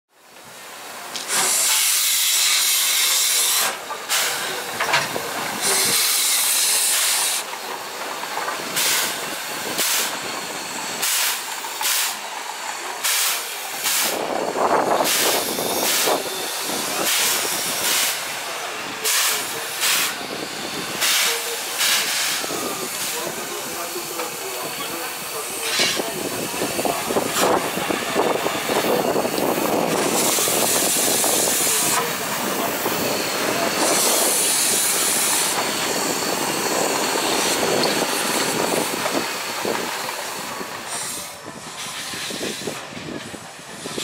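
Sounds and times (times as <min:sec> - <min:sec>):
steam locomotive chuffing: 0:00.4 - 0:44.0
steam hissing: 0:00.5 - 0:44.0.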